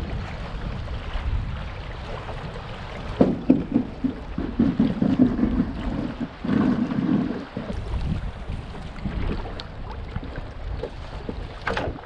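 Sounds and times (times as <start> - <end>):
water slapping against canoe hull: 0.0 - 12.0
wind rumbling on microphone: 0.0 - 12.0.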